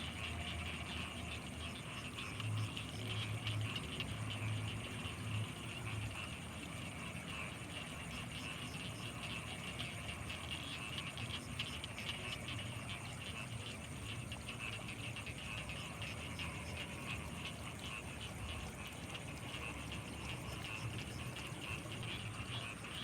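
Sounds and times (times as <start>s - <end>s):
frogs calling: 0.0s - 23.0s.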